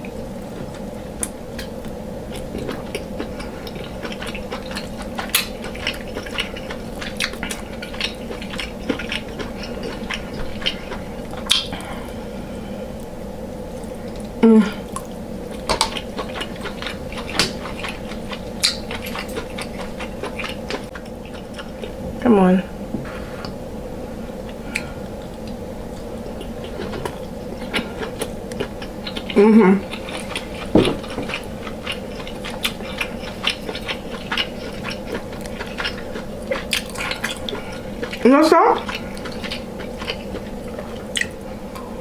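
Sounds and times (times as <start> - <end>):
faint steady hum: 0.0 - 42.0
wet chewing and mouth smacking: 0.6 - 11.9, 13.7 - 22.0, 24.5 - 41.9.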